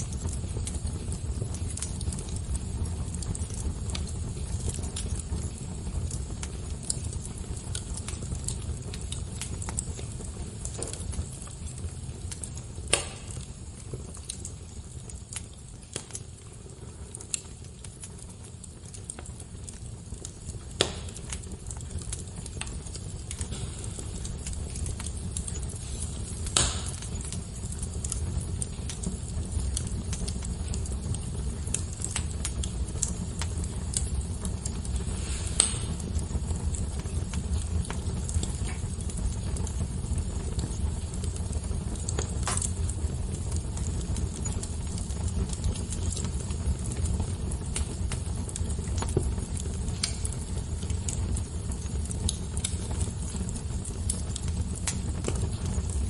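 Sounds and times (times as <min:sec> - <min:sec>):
loud fire pops: 0:00.0 - 0:56.0
wood fire crackling: 0:00.0 - 0:56.0.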